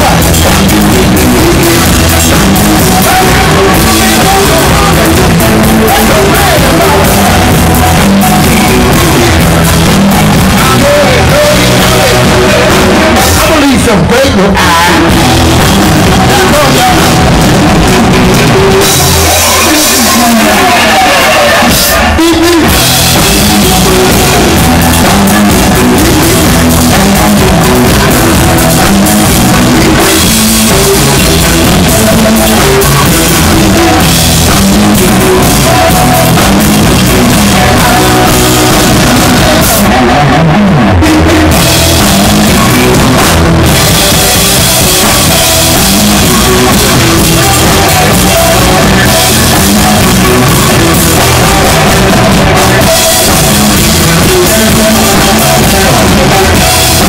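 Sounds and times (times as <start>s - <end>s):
drum kit with cymbals: 0.0s - 40.3s, 41.0s - 57.0s
bass guitar: 0.0s - 57.0s
electric guitar: 0.0s - 57.0s.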